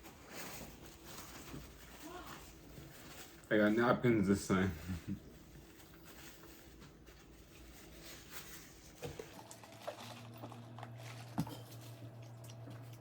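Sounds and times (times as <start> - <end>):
soft clicks and rustles of food: 0.0 - 3.9, 4.9 - 13.0
low steady hum: 0.1 - 13.0.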